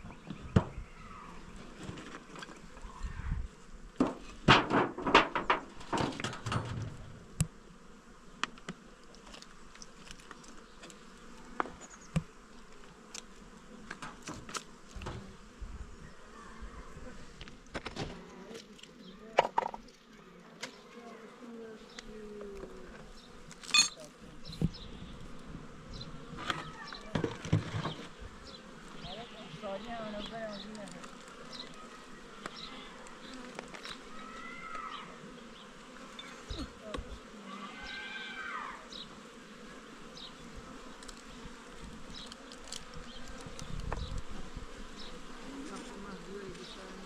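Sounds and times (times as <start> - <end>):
insects buzzing: 0.0 - 47.0.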